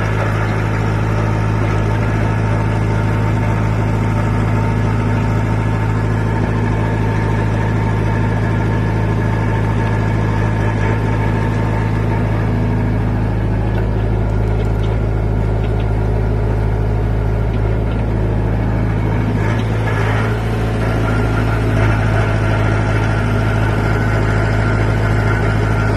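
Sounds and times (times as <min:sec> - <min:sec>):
diesel engine humming: 0:00.0 - 0:25.9.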